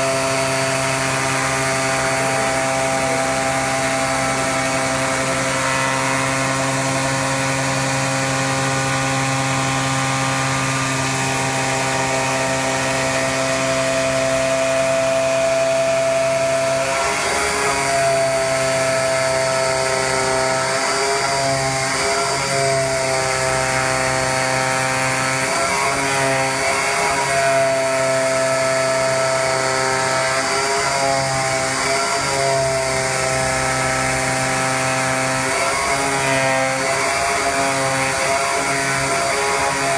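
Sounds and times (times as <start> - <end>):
cutting machine whine: 0.0 - 39.9.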